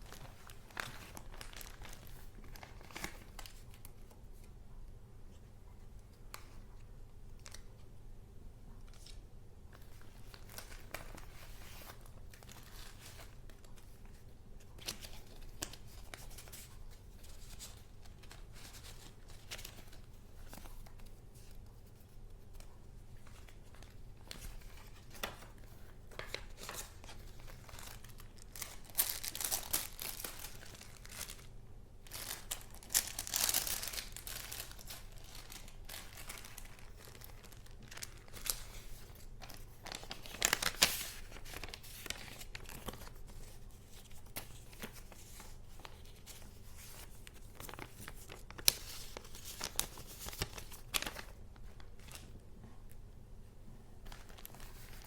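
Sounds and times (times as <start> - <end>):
paper crinkling and rustling: 0.0 - 4.6, 8.8 - 53.0, 54.0 - 55.0.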